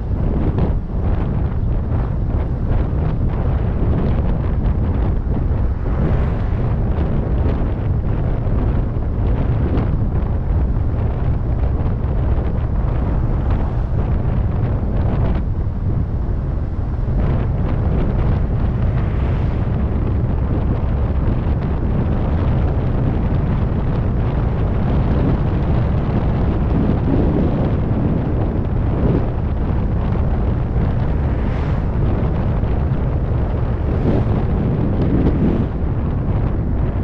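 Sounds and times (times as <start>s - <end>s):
car engine and road rumble: 0.0s - 37.0s
wind buffeting microphone: 0.0s - 37.0s.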